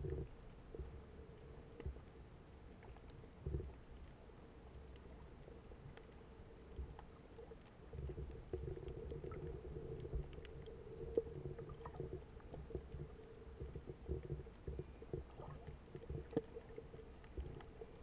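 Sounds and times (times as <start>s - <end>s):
faint clicks and crackles: 0.0s - 18.0s
muffled underwater rumbling: 0.0s - 18.0s.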